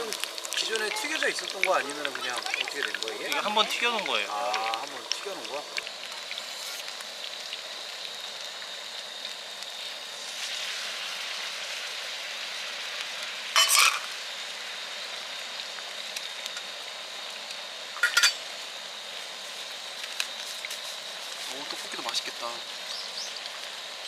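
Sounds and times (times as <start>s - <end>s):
food sizzling and bubbling in sauce: 0.0s - 24.0s.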